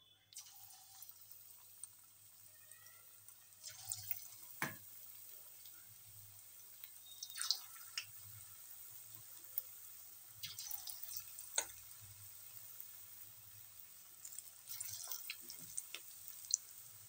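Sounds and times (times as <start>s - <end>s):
oil sizzling deep-frying: 0.0s - 17.0s
sharp oil crackles: 0.3s - 17.0s.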